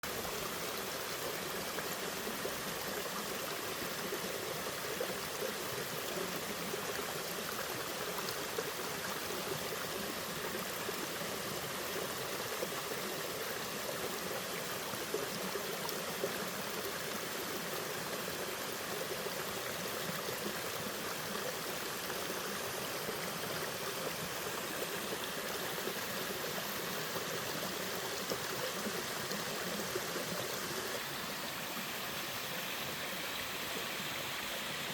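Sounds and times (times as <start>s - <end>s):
stream water rushing over rocks: 0.0s - 34.9s.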